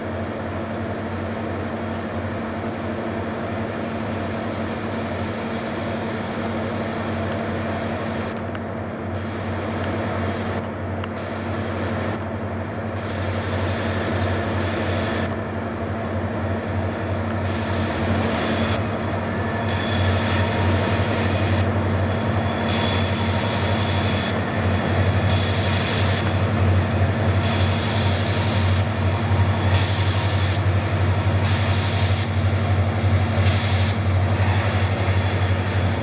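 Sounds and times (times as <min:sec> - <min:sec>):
locomotive engines droning: 0:00.0 - 0:36.0.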